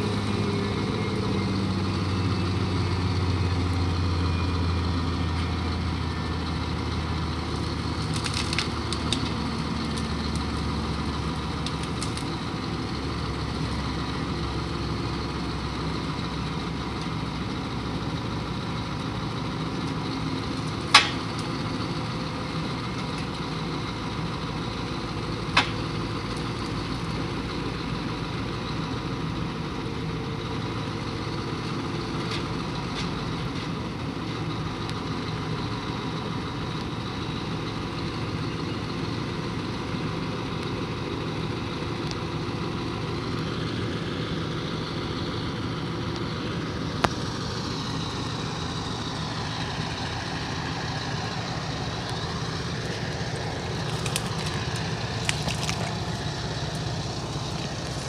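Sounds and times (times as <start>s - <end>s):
truck engine running steadily: 0.0s - 58.0s.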